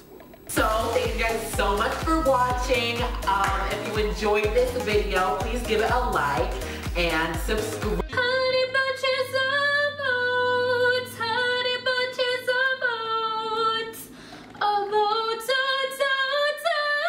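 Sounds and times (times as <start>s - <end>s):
woman singing slow melody: 0.5s - 17.0s.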